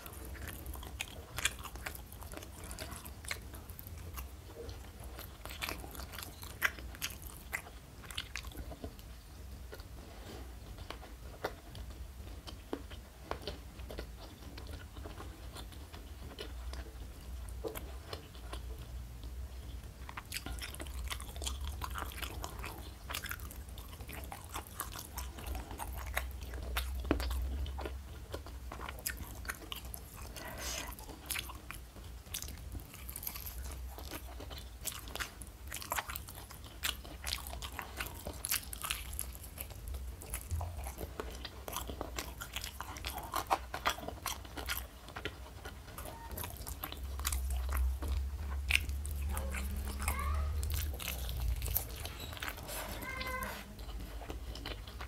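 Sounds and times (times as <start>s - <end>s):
person chewing crunchy food: 0.0s - 55.0s
steady low hum: 0.0s - 55.0s.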